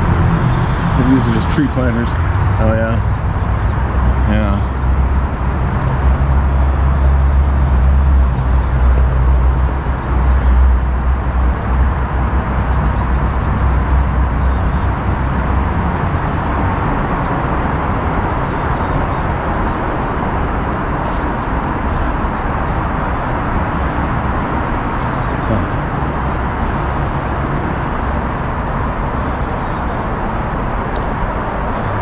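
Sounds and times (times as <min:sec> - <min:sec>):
freeway traffic noise: 0:00.0 - 0:32.0
deep low rumble: 0:02.1 - 0:32.0.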